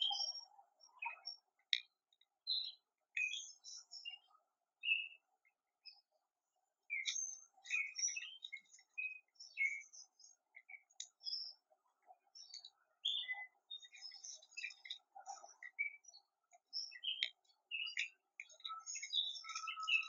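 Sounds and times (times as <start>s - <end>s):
wild birds chirping: 0.0s - 20.0s.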